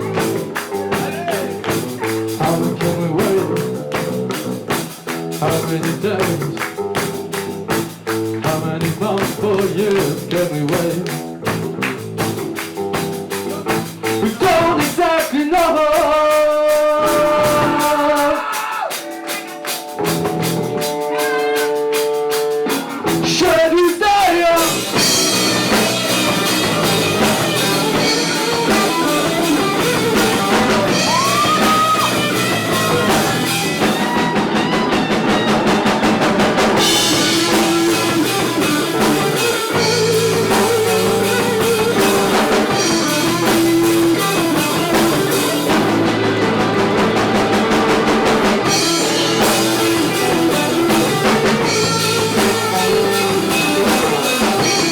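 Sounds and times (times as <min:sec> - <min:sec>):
drum kit beat: 0:00.0 - 0:54.9
electric guitar: 0:00.0 - 0:54.9.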